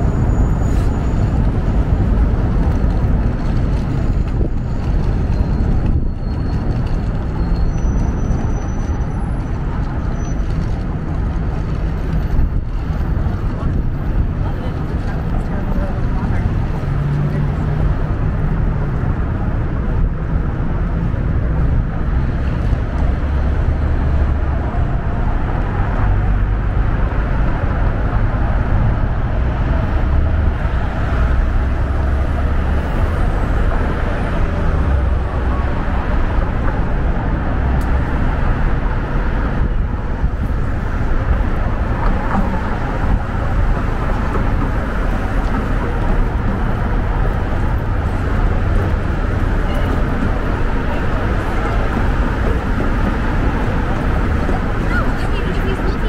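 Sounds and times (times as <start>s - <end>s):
city street traffic: 0.0s - 56.0s.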